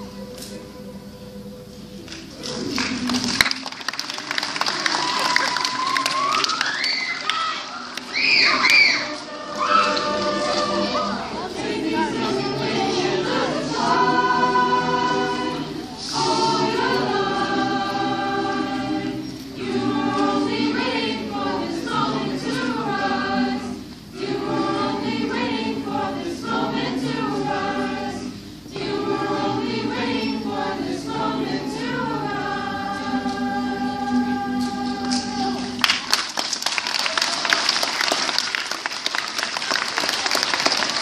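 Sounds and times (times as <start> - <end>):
mixed choir singing: 0.0 - 36.1.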